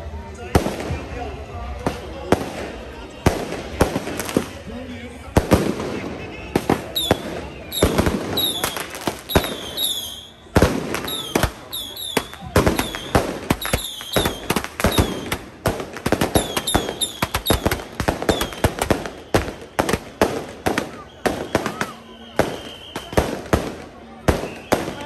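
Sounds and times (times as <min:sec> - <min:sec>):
firecrackers banging: 0:00.3 - 0:25.0.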